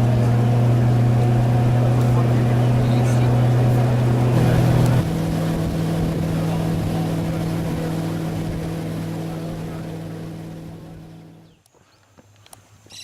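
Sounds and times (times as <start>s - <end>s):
engine running steadily: 0.0s - 11.6s.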